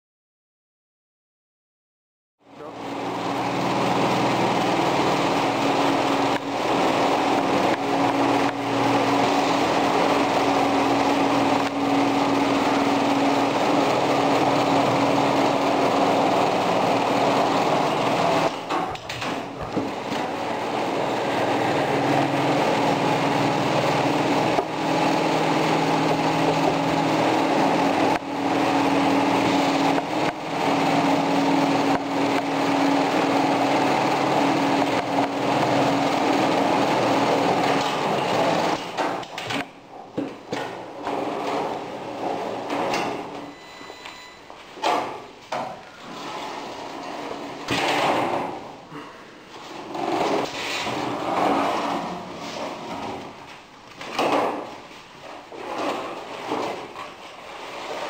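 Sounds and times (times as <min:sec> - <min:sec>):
industrial sewing machine running: 0:02.6 - 0:39.7, 0:40.9 - 0:43.7, 0:49.7 - 0:53.2, 0:54.2 - 0:58.0.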